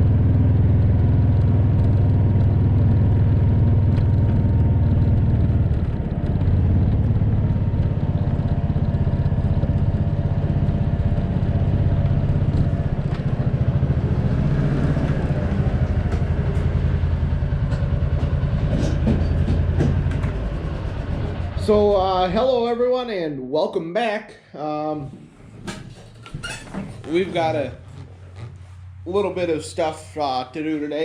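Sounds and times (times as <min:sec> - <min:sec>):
vehicle engine running: 0:00.0 - 0:22.7, 0:27.0 - 0:31.0.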